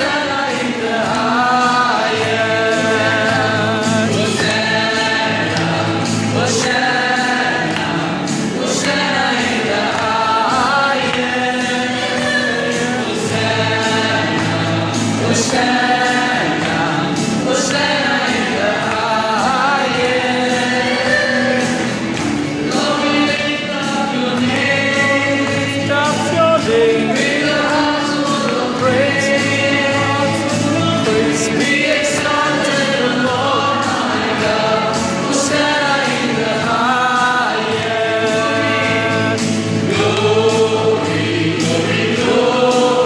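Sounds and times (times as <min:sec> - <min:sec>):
choir singing worship song: 0:00.0 - 0:43.0
instrumental accompaniment: 0:00.0 - 0:43.0
percussion: 0:00.0 - 0:43.0.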